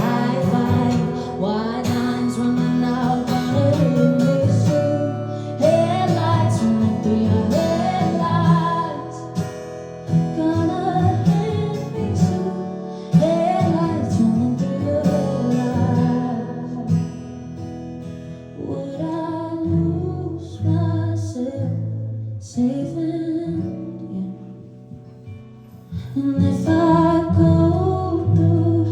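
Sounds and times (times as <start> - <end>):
woman singing: 0.0 - 17.1, 18.6 - 24.8, 25.9 - 28.9
acoustic guitar: 0.0 - 28.9.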